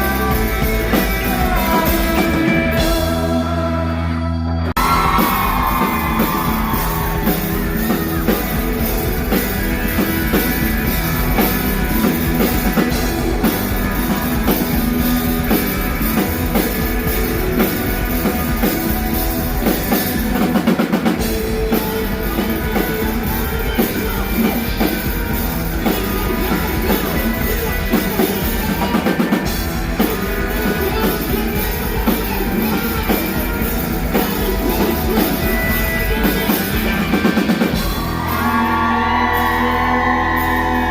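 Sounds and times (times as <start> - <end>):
drum kit: 0.0 - 3.8, 4.8 - 40.9
electric guitar: 0.0 - 40.9
rock band playing live: 0.0 - 40.9.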